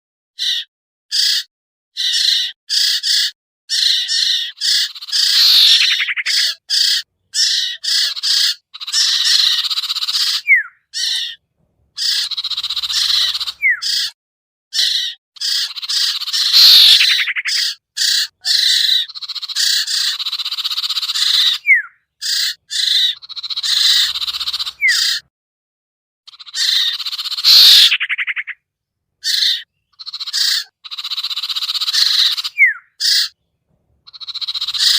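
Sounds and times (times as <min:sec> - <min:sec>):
bird chirps and trills: 0:00.4 - 0:14.2, 0:14.8 - 0:25.3, 0:26.3 - 0:28.6, 0:29.2 - 0:34.9.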